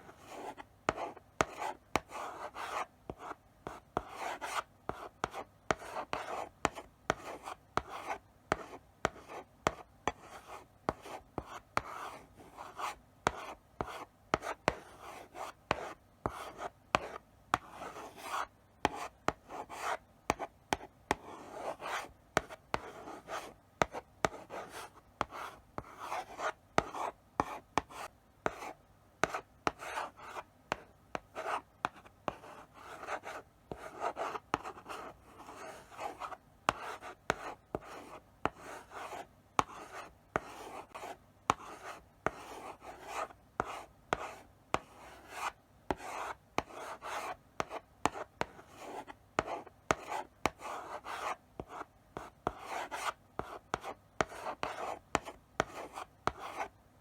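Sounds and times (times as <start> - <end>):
chalk scratching on blackboard: 0.0 - 30.8, 31.4 - 56.7
chalk tapping on board: 0.5 - 12.0, 15.7 - 56.7.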